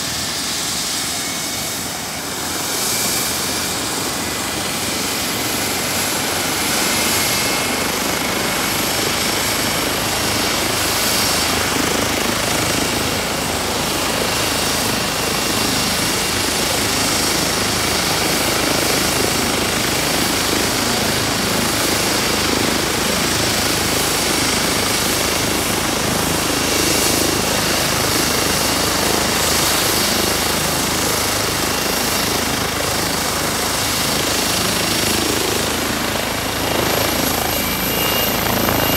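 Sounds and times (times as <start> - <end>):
helicopter rotor noise: 0.0 - 38.9
high turbine whine: 0.0 - 38.9.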